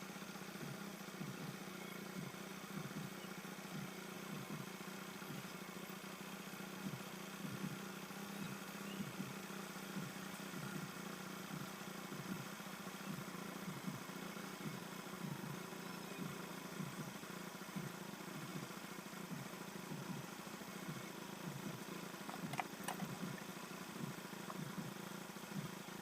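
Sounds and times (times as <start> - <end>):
small engine idling: 0.0 - 26.0.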